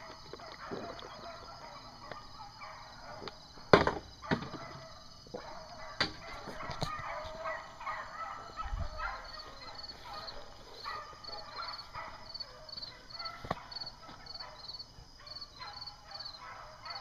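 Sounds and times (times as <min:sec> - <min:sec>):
beagles baying: 0:00.0 - 0:17.0.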